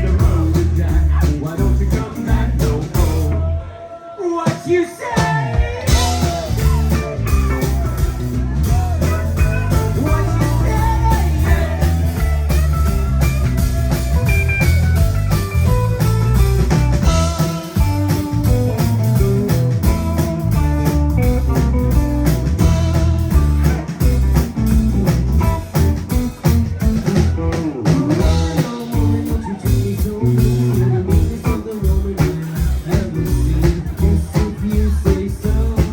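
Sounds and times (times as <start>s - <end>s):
live rock band playing blues: 0.0s - 3.6s, 4.4s - 35.9s.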